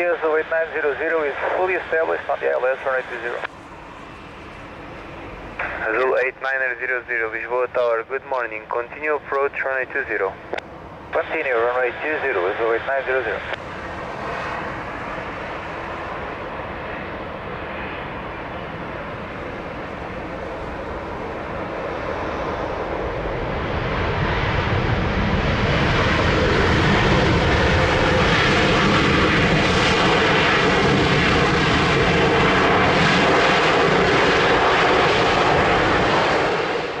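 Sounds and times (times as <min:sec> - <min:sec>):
jet engines hiss and rumble: 0:00.0 - 0:37.0.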